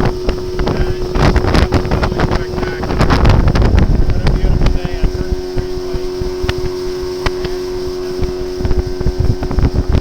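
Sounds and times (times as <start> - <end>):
boat motor droning: 0.0 - 10.0
wind buffeting microphone: 0.0 - 10.0.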